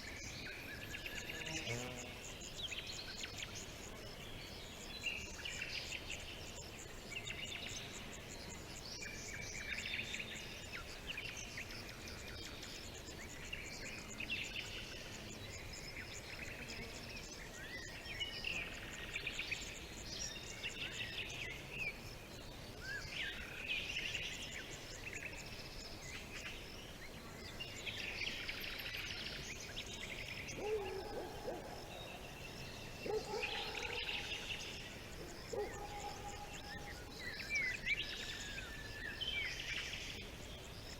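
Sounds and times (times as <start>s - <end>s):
faint outdoor background: 0.0s - 40.9s
songbirds chirping and trilling: 0.0s - 40.9s.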